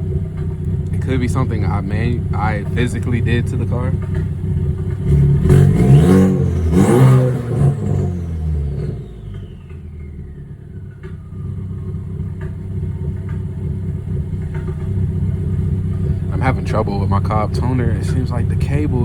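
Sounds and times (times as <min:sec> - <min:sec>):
car engine revving and idling: 0:00.0 - 0:19.0
high whine: 0:00.0 - 0:19.0.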